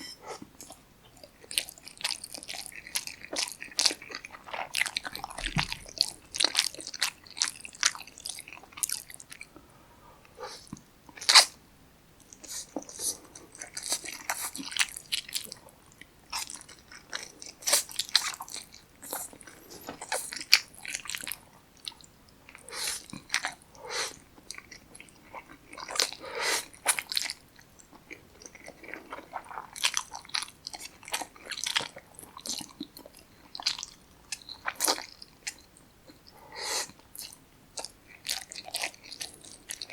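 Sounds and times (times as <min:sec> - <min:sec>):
person chewing noodles: 0:00.0 - 0:09.5, 0:12.2 - 0:39.9.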